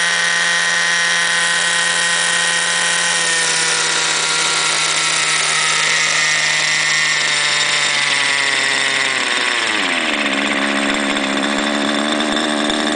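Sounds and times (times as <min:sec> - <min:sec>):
model helicopter engine running: 0:00.0 - 0:12.9
rotor spinning: 0:00.0 - 0:12.9.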